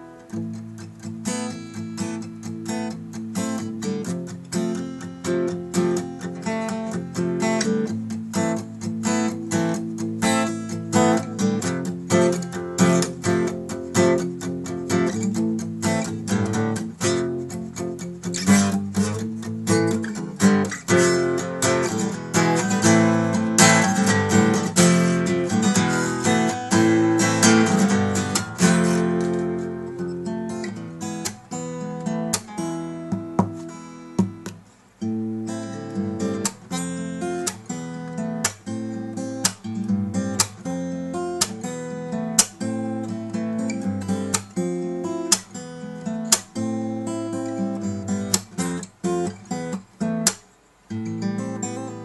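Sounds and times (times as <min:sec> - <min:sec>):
acoustic guitar strumming and picking: 0:00.0 - 0:52.0.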